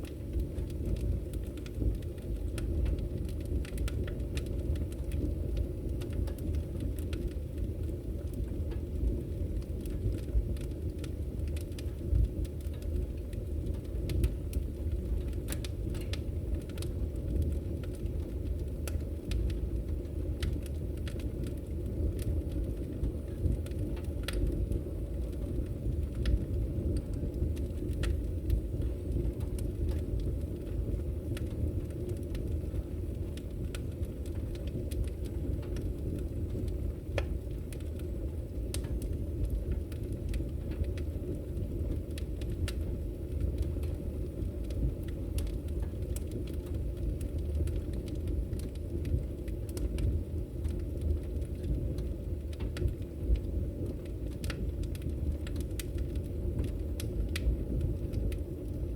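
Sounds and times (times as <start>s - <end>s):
fire rumbling: 0.0s - 58.9s
logs crackling and popping: 0.0s - 58.9s.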